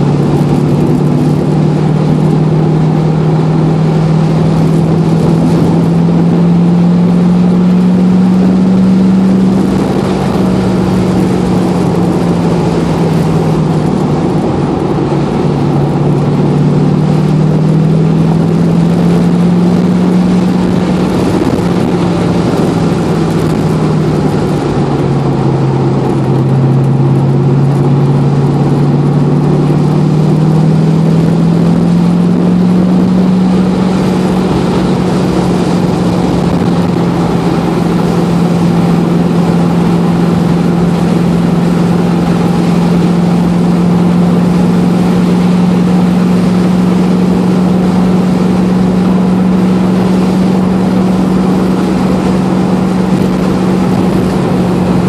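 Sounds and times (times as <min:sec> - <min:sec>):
car engine running: 0:00.0 - 0:55.0
road and wind noise: 0:00.0 - 0:55.0.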